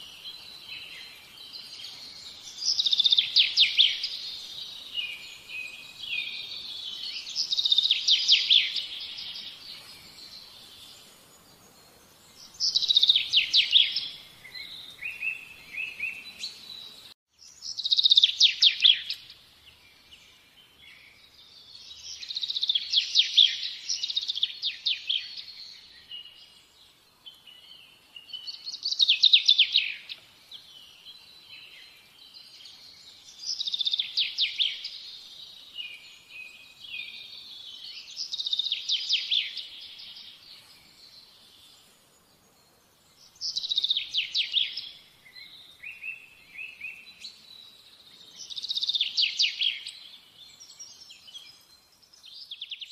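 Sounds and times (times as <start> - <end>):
songbird chirps and trills: 0.0 - 52.9.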